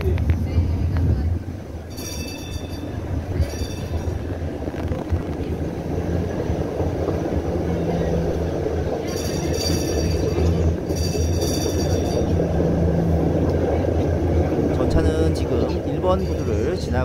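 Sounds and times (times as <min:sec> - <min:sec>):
streetcar wheels rumbling on rails: 0:00.0 - 0:17.0.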